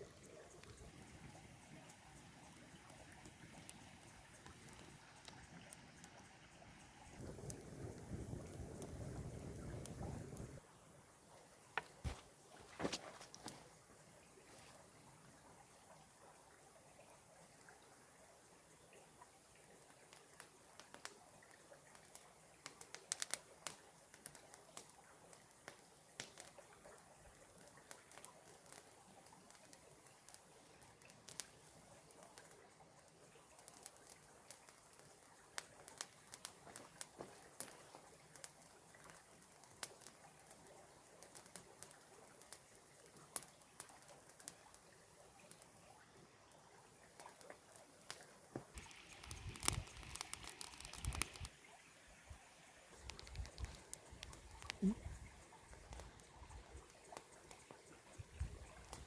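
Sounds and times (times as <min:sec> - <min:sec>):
campfire crackling: 0:00.0 - 0:51.5, 0:52.9 - 0:59.0.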